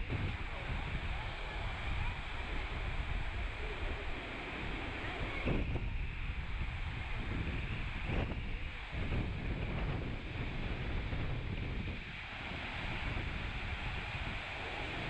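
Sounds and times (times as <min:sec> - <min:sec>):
steady rushing hiss: 0:00.0 - 0:15.0
wind buffeting microphone: 0:00.0 - 0:15.0.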